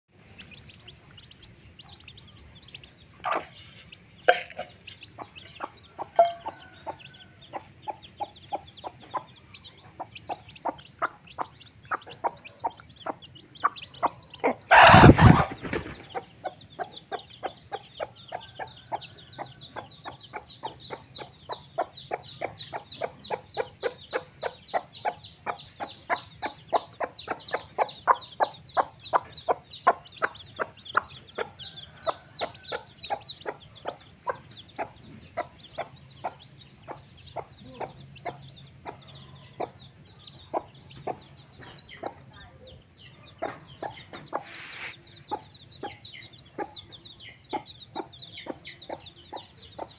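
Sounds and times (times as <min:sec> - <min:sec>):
chicks peeping: 0:00.1 - 0:49.9
hen clucking: 0:00.2 - 0:49.9.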